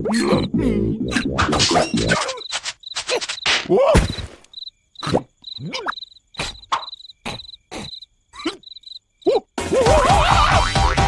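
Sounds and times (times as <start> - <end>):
crickets chirping: 0.2 - 9.6.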